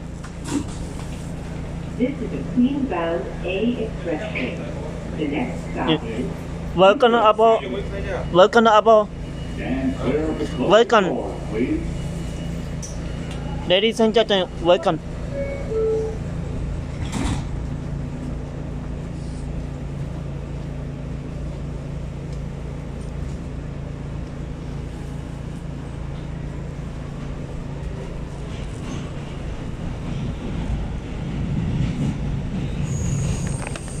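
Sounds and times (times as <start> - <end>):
subway car rumbling on track: 0.0 - 34.0.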